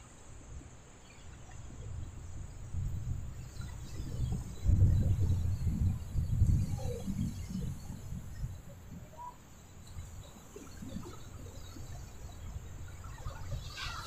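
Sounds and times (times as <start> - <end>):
waves breaking on shore: 0.0 - 14.0
wind buffeting microphone: 0.0 - 14.0.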